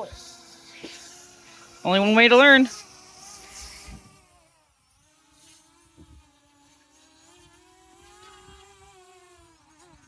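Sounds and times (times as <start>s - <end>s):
toy drone propellers buzzing: 0.0s - 10.0s.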